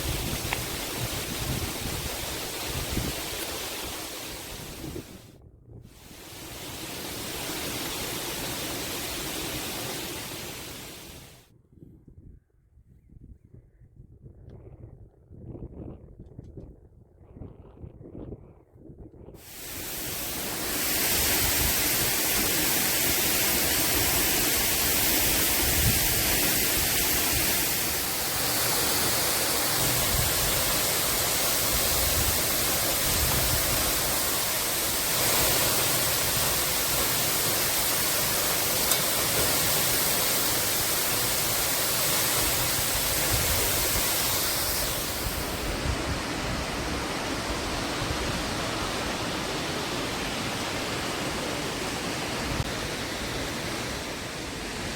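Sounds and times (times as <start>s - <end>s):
waterfall rushing: 0.0s - 5.2s, 6.0s - 11.4s, 19.4s - 54.9s.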